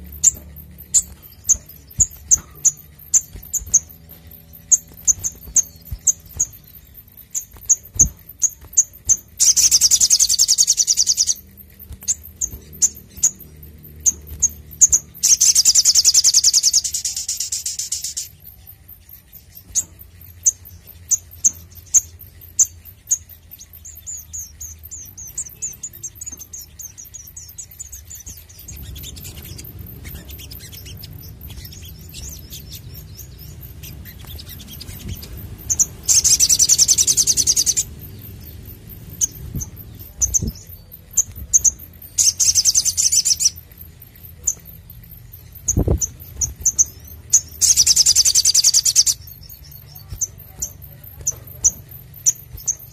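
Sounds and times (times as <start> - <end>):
bird chirping and trilling: 0.0 - 52.9.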